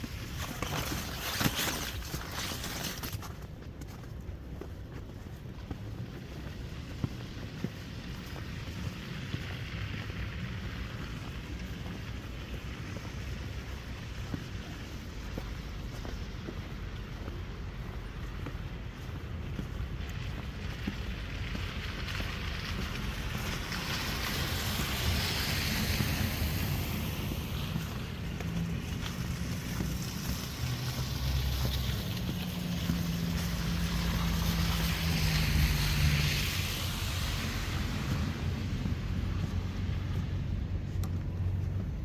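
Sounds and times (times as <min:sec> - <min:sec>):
road traffic: 0:00.0 - 0:42.0
vehicles passing: 0:00.0 - 0:42.0
wind rumbling on microphone: 0:00.0 - 0:42.0.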